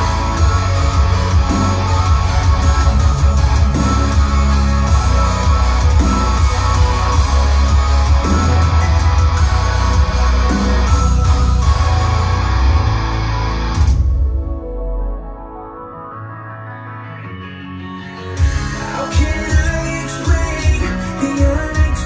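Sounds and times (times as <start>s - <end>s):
guitar-driven rock music: 0.0s - 15.0s, 16.0s - 22.0s.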